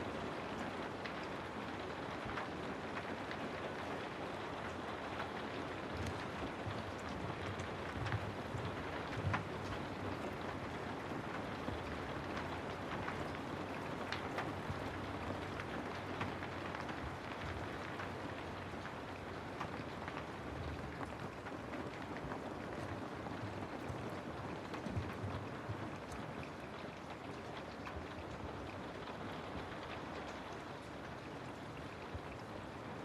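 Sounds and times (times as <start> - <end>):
rain falling on a house: 0.0 - 33.0.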